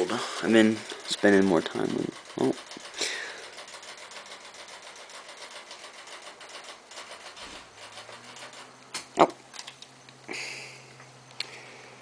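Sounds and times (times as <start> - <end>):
rapid mechanical ticking: 0.0 - 9.9.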